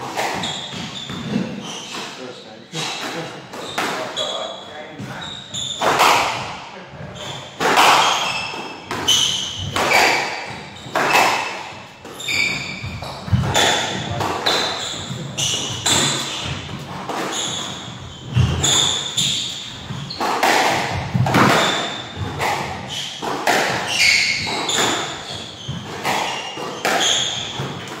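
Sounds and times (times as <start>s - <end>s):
squash ball hits: 0.0s - 2.2s, 5.0s - 28.0s
shoes squeaking on wooden floor: 0.0s - 28.0s.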